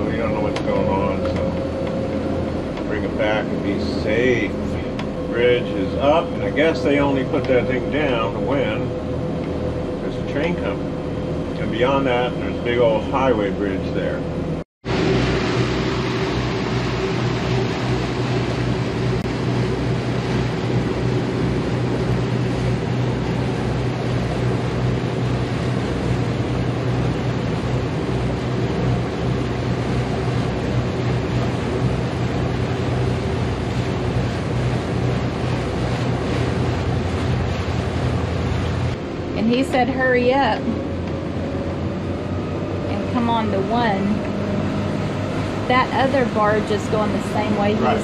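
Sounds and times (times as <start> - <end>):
boat engines humming: 0.0 - 48.0
water rushing along a hull: 0.0 - 48.0.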